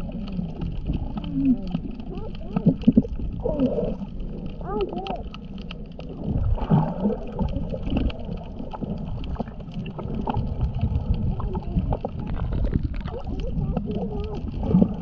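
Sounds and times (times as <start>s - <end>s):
gurgling bubbles: 0.0s - 15.0s
underwater rumble of moving water: 0.0s - 15.0s.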